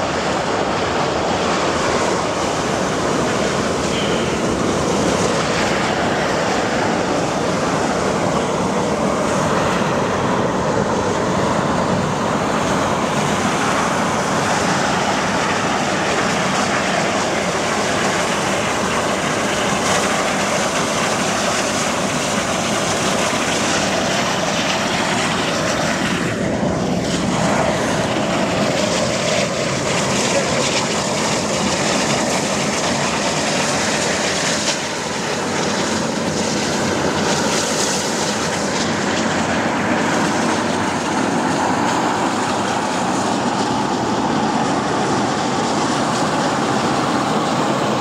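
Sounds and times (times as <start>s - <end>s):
roar of rushing steam: 0.0s - 48.0s.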